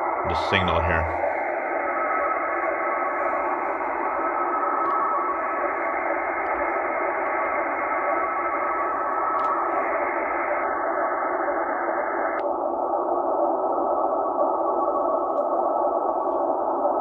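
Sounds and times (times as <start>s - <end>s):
radio static hissing: 0.0s - 17.0s
weak radio data signal: 0.0s - 17.0s.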